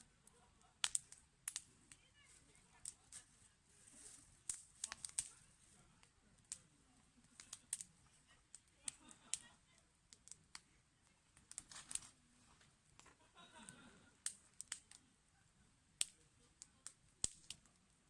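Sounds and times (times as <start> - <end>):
faint fire hiss: 0.0 - 18.0
wood fire crackling: 0.0 - 18.0.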